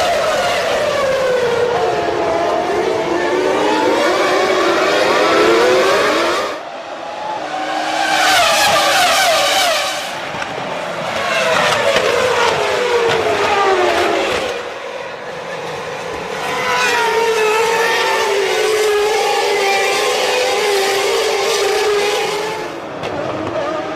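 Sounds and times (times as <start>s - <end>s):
racing car engines passing: 0.0s - 23.9s.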